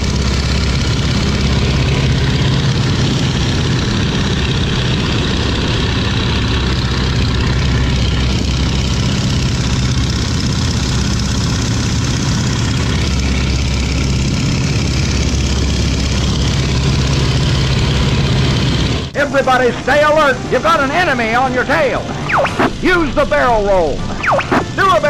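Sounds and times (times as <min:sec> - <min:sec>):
biplane engine running: 0:00.0 - 0:25.0.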